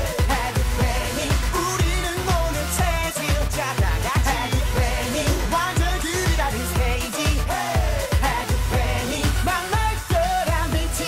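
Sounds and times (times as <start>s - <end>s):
drum beat and bass: 0.0s - 11.0s
men singing: 0.0s - 11.0s.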